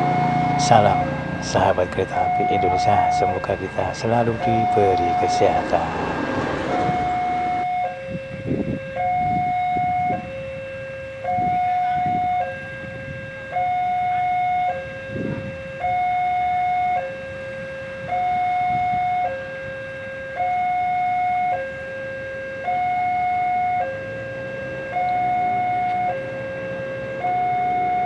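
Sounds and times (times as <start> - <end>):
level crossing two-tone alarm: 0.0 - 28.0
low traffic rumble: 0.0 - 28.0.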